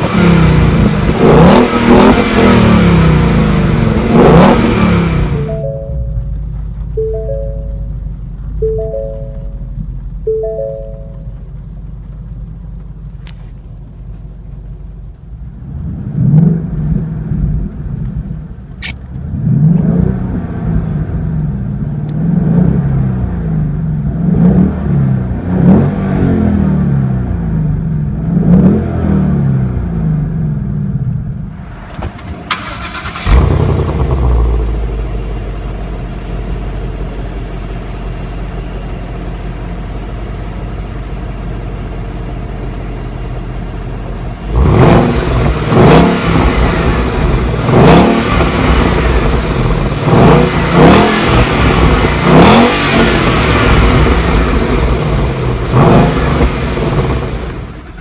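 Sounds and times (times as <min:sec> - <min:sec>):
car exhaust revving and idling: 0:00.0 - 0:58.0.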